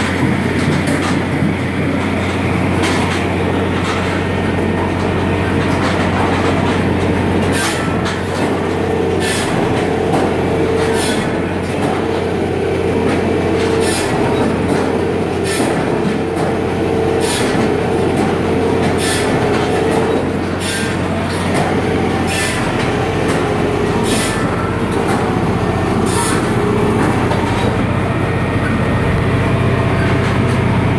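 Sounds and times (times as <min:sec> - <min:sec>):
firewood clattering in drum: 0:00.0 - 0:27.8
rotating drum droning: 0:00.0 - 0:30.9.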